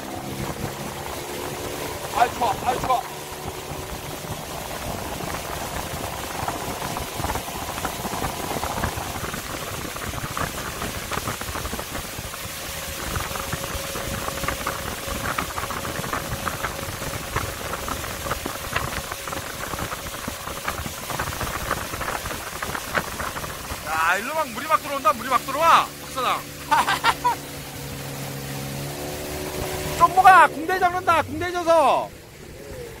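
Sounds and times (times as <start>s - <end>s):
boat motor running: 0.0s - 33.0s
water churning along hull: 0.0s - 33.0s.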